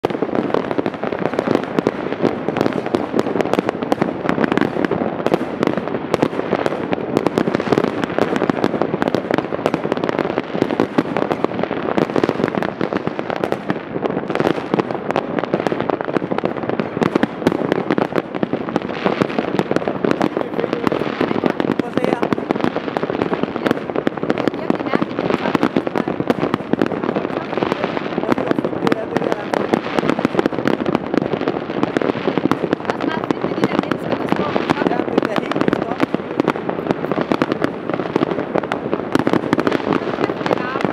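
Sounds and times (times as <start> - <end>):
fireworks and firecrackers crackling: 0.0 - 40.9.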